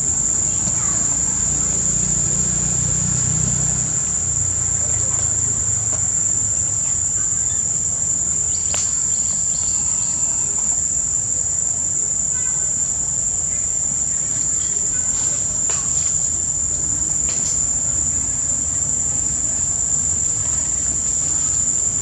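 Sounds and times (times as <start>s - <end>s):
insects singing: 0.0s - 22.0s.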